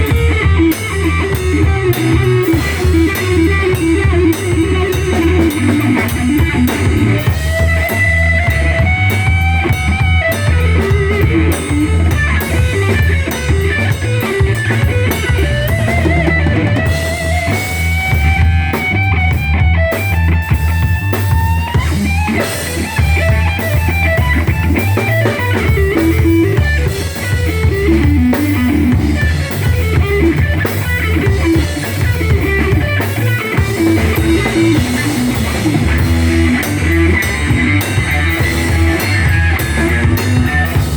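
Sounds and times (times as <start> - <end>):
drum kit: 0.0 - 40.9
electric guitar lead: 0.0 - 40.9.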